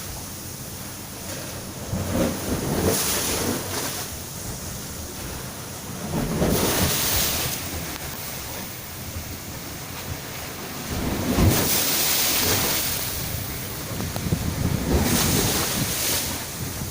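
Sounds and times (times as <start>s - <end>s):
sea waves: 0.0s - 16.9s
wind buffeting microphone: 1.8s - 16.9s.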